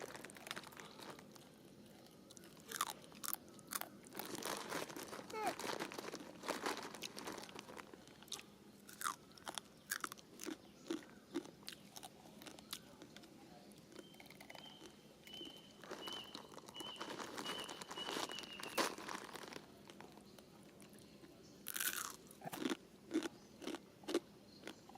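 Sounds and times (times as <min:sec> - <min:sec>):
monkey chewing and crunching food: 0:00.0 - 0:21.0.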